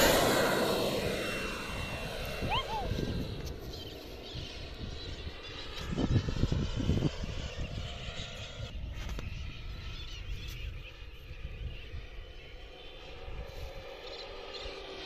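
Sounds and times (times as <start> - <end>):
model plane engine droning: 0.0 - 15.0.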